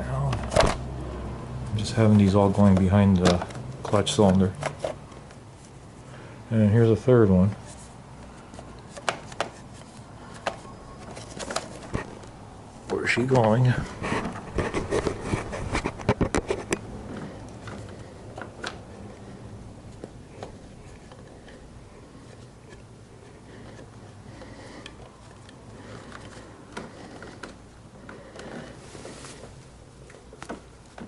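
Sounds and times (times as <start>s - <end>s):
faint handling noise: 1.7s - 31.0s.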